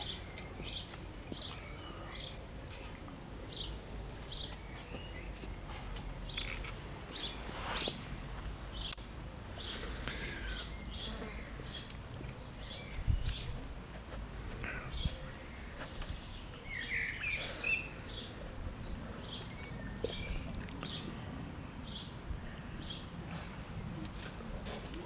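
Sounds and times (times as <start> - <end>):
birds chirping: 0.0 - 23.2.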